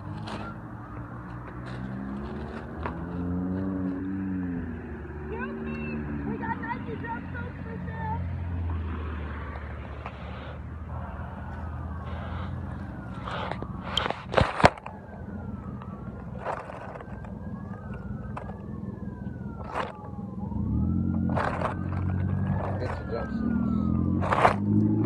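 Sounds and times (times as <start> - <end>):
emergency vehicle siren wailing: 0.0 - 25.0
idling engine hum: 0.0 - 25.0.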